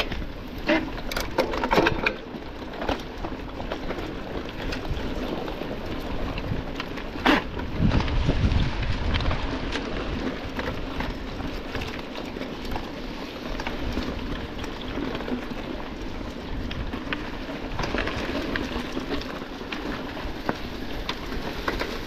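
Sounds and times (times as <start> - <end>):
bike clicks and rattles: 0.0 - 22.0
bike tyres on rough trail: 0.0 - 22.0.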